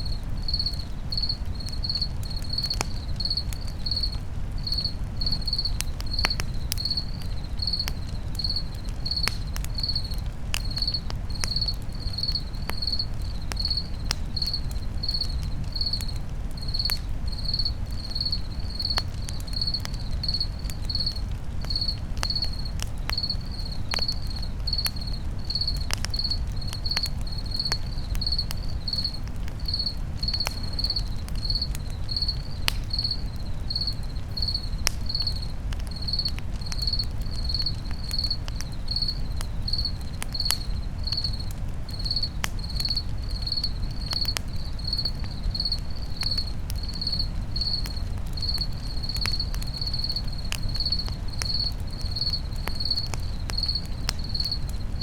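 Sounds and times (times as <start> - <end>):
campfire crackling: 0.0 - 55.0
cricket chirping: 0.0 - 55.0.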